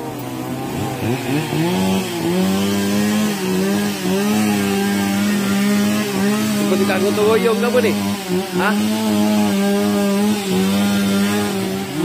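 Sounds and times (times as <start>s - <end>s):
small petrol engine revving: 0.0s - 12.0s.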